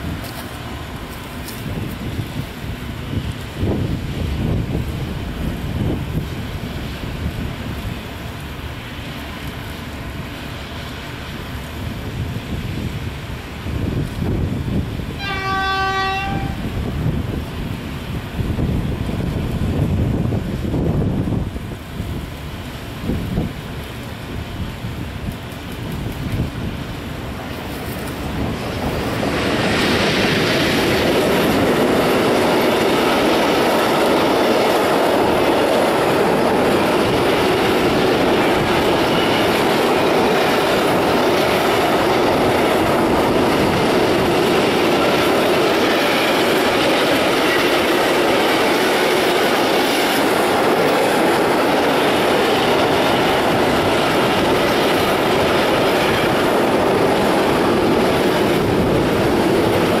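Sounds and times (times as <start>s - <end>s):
freight train wheels rumbling on rails: 0.0s - 60.0s.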